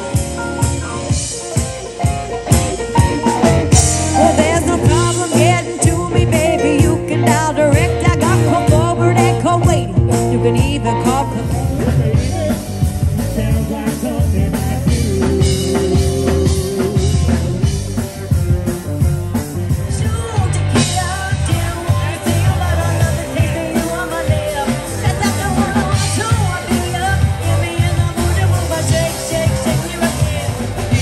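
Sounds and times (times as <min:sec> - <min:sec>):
drum beat: 0:00.0 - 0:31.0
guitar: 0:00.0 - 0:31.0
keyboard: 0:00.0 - 0:31.0
woman singing into microphone: 0:04.0 - 0:17.8, 0:19.8 - 0:31.0.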